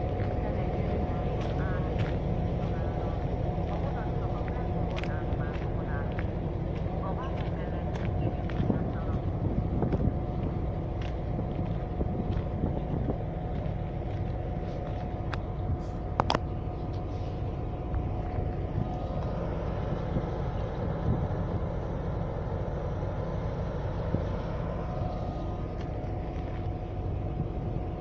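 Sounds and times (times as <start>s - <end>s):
diesel locomotive engine idling: 0.0s - 28.0s.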